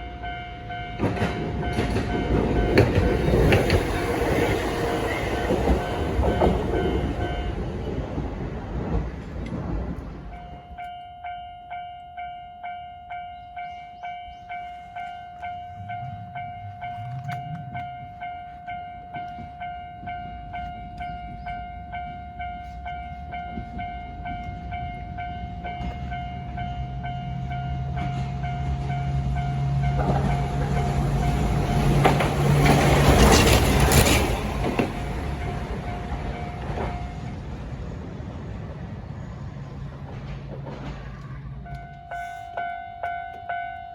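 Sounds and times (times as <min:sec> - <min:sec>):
level-crossing alarm bell: 0:00.0 - 0:08.2, 0:10.3 - 0:37.8, 0:41.6 - 0:43.9
tram motor hum: 0:00.0 - 0:43.9.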